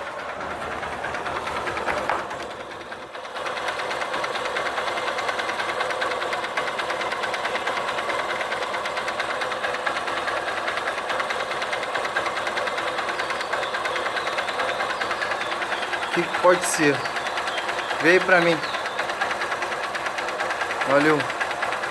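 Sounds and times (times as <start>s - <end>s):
fast ticking rattle: 0.0s - 21.9s
motorcycle engine running: 0.0s - 21.9s.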